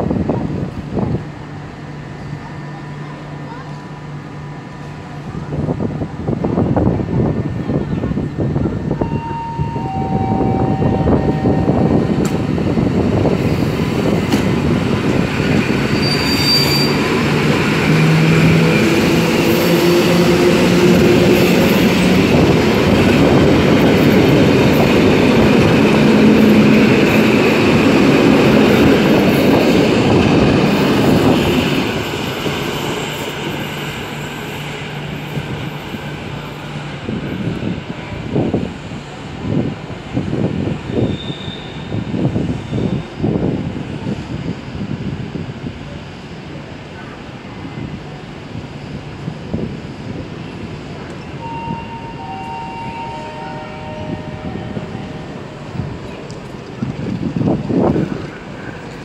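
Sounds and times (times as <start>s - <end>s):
steady train tones: 0.0s - 59.0s
train wheels rumbling on rails: 0.0s - 59.0s.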